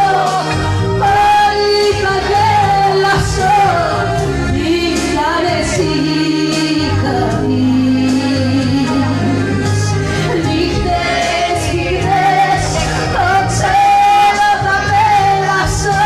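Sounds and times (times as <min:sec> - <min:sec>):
band playing: 0:00.0 - 0:16.0
bass: 0:00.0 - 0:16.0
woman singing into microphone: 0:00.0 - 0:16.0.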